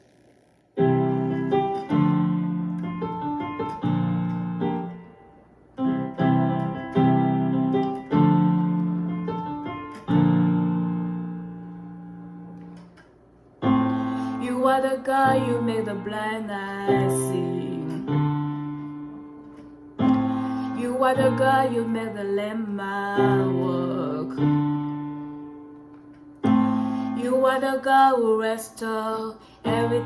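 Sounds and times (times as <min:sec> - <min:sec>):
piano playing sustained chords: 0:00.8 - 0:12.8, 0:13.6 - 0:28.1.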